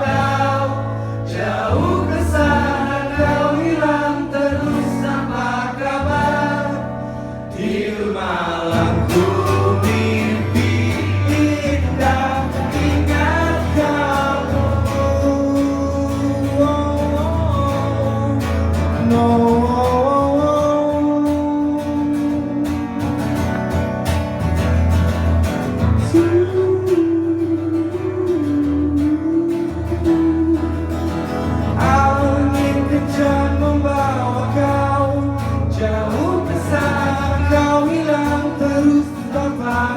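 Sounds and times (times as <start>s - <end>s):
person singing: 0.0s - 6.9s, 7.6s - 23.1s, 26.1s - 31.2s, 31.8s - 39.9s
low bass line: 0.0s - 7.9s, 8.7s - 39.9s
guitar accompaniment: 0.0s - 39.9s.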